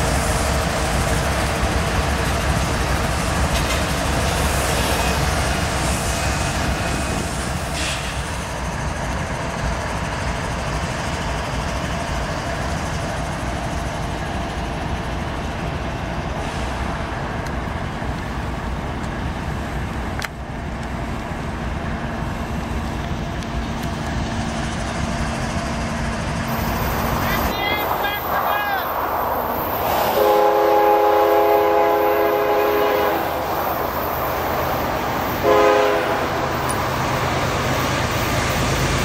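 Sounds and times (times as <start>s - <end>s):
diesel locomotive engines running: 0.0s - 39.0s
wheels on rail: 0.0s - 39.0s.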